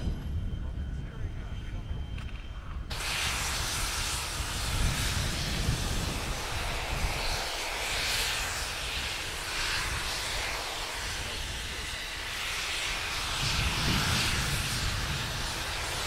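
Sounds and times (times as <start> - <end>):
low rumble: 0.0 - 16.0
steam hissing: 2.9 - 16.0.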